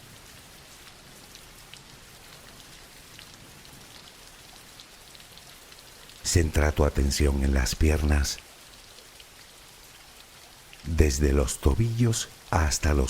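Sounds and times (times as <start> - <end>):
soft rain falling: 0.0 - 13.0.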